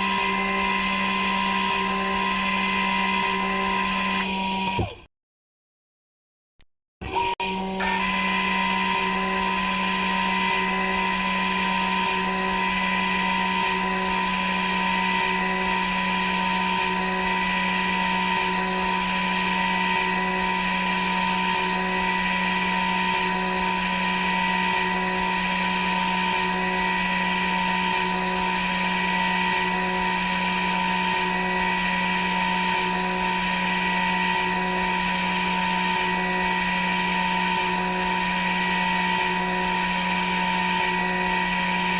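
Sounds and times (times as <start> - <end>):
cnc spindle motor whine: 0.0 - 5.0, 7.0 - 41.9.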